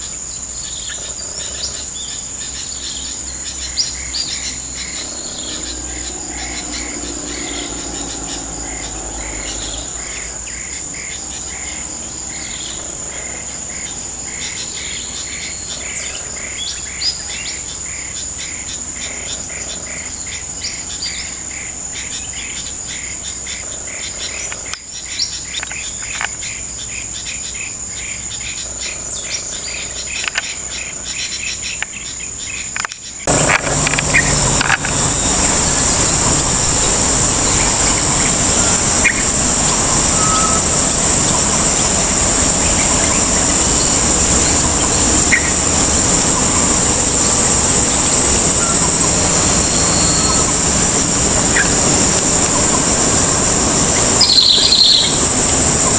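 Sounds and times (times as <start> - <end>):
loud steady rushing noise: 0.0 - 25.6, 33.1 - 55.9
high insect buzz: 0.0 - 55.9
small birds chirping: 0.0 - 55.9.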